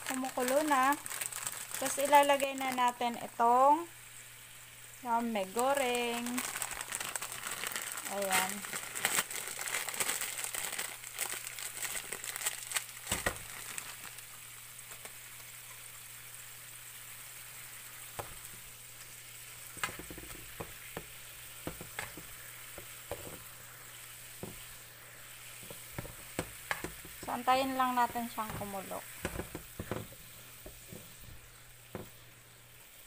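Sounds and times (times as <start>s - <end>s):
water boiling in a pan: 0.0s - 33.0s.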